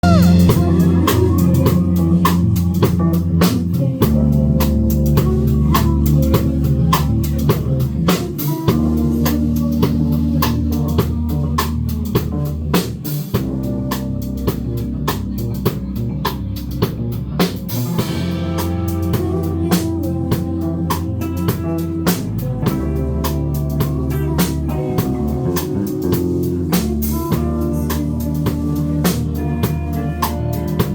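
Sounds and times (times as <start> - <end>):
deep bass notes: 0.0 - 30.9
drum kit beat: 0.0 - 30.9
guitar: 0.0 - 30.9.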